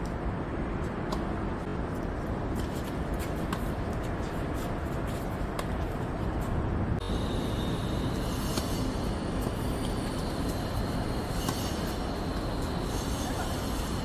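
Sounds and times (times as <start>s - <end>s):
low rumble of road traffic: 0.0s - 14.0s.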